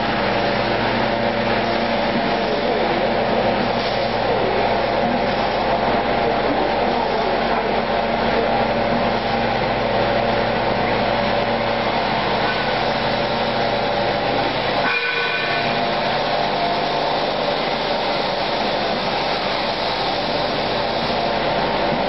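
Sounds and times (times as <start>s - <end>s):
roaster machine humming: 0.0s - 22.0s.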